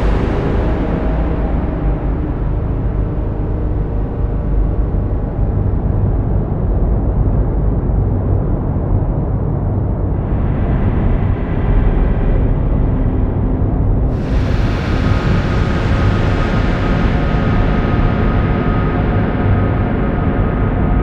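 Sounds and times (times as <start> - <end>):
dark low rumbling drone: 0.0 - 21.0.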